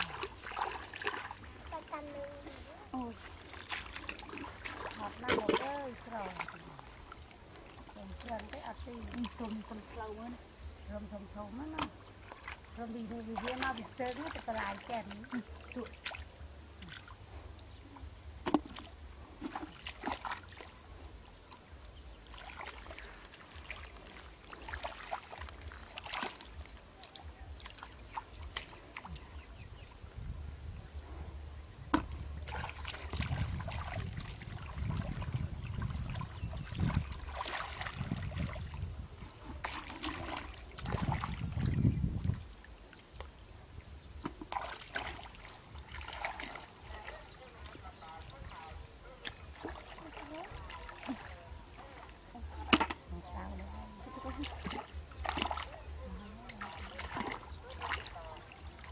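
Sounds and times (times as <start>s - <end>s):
muddy water splashing: 0.0s - 58.9s.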